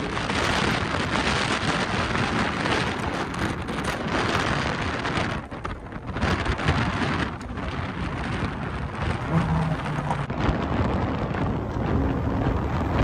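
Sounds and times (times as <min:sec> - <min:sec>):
wind rushing through car window: 0:00.0 - 0:13.0.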